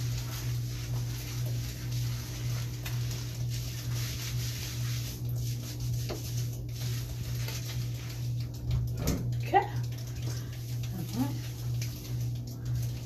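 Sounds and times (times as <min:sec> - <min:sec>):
shower water spattering: 0:00.0 - 0:13.0.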